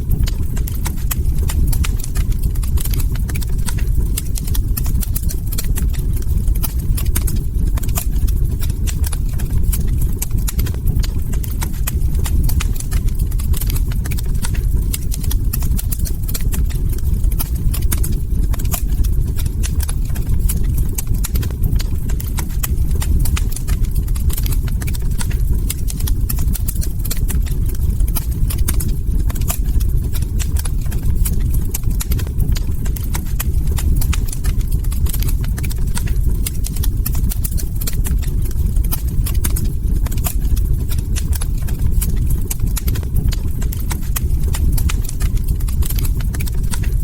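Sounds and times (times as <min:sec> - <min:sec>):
fire crackling and popping: 0:00.0 - 0:47.0
low rumble of burning wood: 0:00.0 - 0:47.0.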